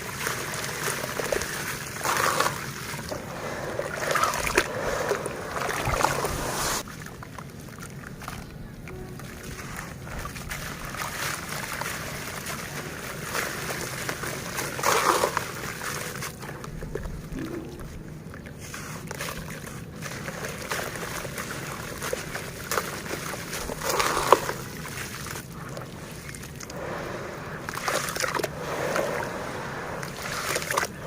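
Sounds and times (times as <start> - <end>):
dirt crumbling in water: 0.0 - 26.8, 27.4 - 31.0
water sloshing: 0.0 - 31.0.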